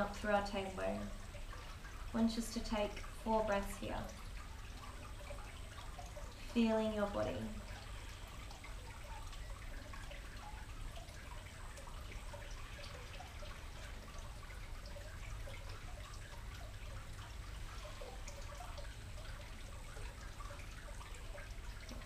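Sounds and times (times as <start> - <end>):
water trickling and dripping: 0.0 - 22.0.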